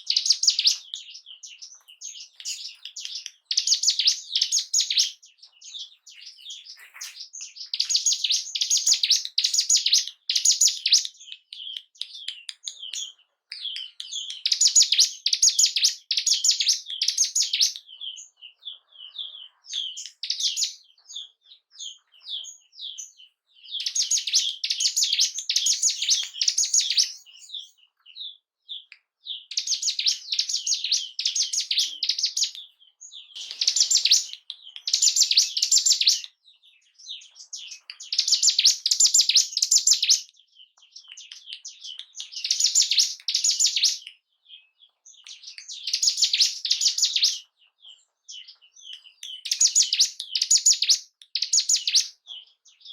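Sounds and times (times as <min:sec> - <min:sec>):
bird singing fast high chirps: 0:00.0 - 0:47.5, 0:48.3 - 0:52.9.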